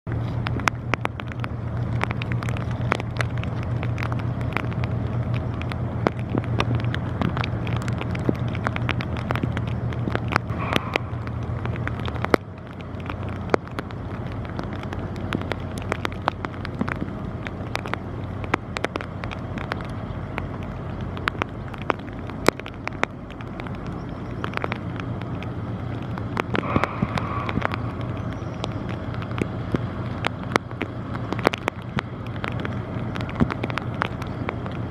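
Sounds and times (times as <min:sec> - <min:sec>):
boat diesel engine drone: 0:00.0 - 0:34.9
wind on microphone: 0:00.1 - 0:34.9.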